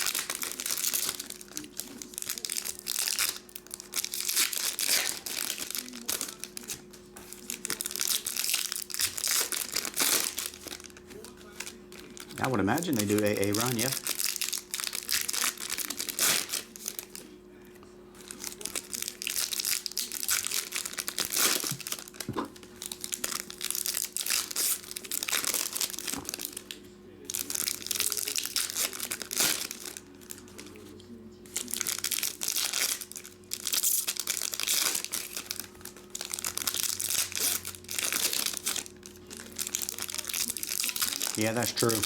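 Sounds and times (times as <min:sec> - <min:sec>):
card pack wrappers tearing: 0:00.0 - 0:17.3, 0:18.2 - 0:42.0.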